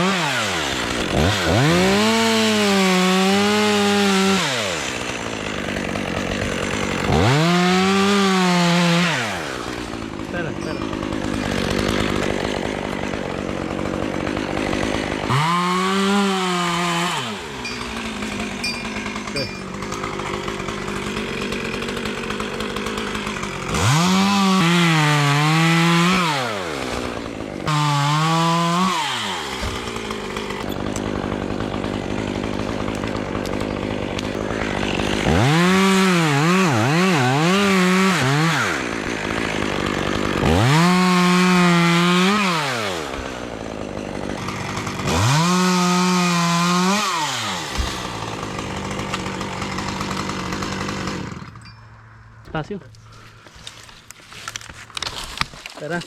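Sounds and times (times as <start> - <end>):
chainsaw cutting through limbs: 0.0 - 56.0
chainsaw idling and revving: 0.0 - 56.0.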